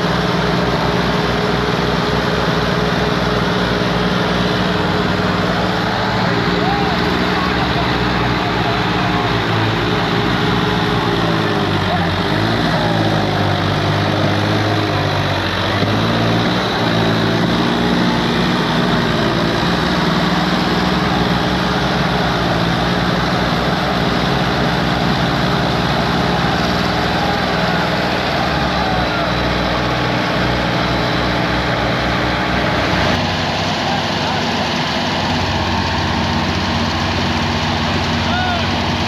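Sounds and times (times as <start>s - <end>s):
tractor diesel engines under load: 0.0s - 39.0s.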